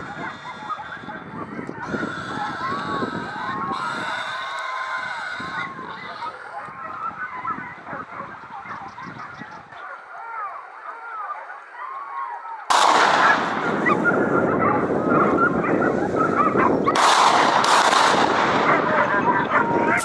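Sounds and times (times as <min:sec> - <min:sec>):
hunting dogs baying and yelping: 0:00.0 - 0:20.0.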